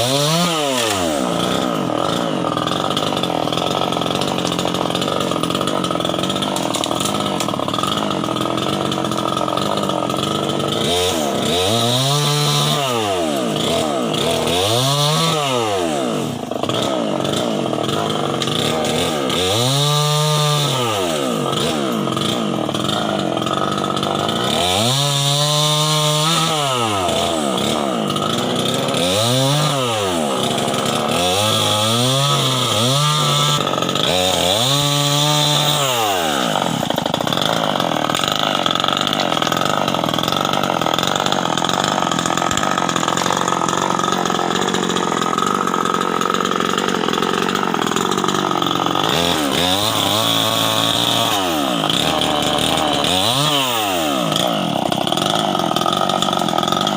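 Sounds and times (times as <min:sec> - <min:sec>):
chainsaw revving: 0:00.0 - 0:56.9.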